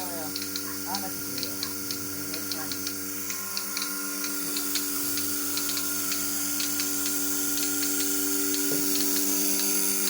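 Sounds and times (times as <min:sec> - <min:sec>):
machine humming and hissing: 0:00.0 - 0:10.0
sharp ticking: 0:00.1 - 0:09.7.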